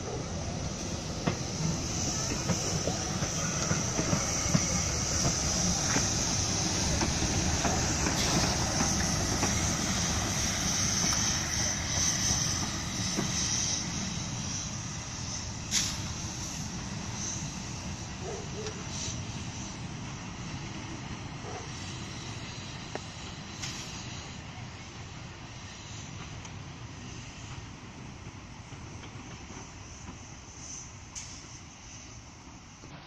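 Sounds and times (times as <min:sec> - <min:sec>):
train wheels clicking on rails: 0:00.0 - 0:24.4, 0:25.2 - 0:33.0
steam locomotive hissing: 0:00.0 - 0:33.0.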